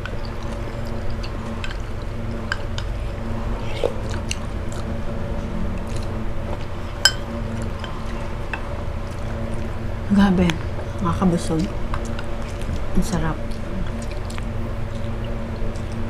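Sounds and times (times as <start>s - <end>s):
chewing and mouth noises: 0.0s - 9.8s, 10.4s - 16.0s.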